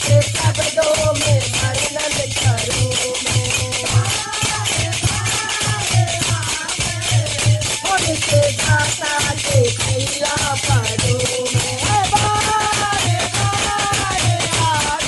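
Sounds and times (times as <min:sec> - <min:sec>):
hand percussion jingling: 0:00.0 - 0:15.0
women singing devotional song: 0:00.0 - 0:15.0.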